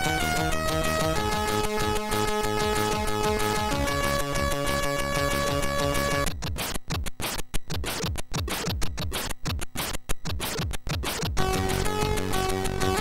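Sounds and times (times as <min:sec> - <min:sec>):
chiptune demo music: 0:00.0 - 0:13.0.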